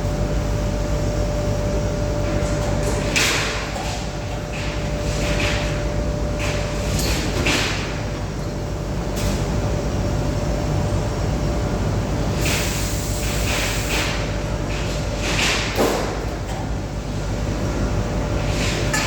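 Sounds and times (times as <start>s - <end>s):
machinery hum with thin whine: 0.0s - 19.0s.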